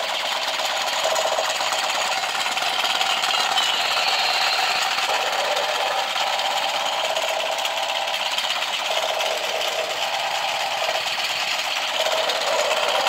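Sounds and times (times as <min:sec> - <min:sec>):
toy gun rapid-fire buzzing: 0:00.0 - 0:13.0.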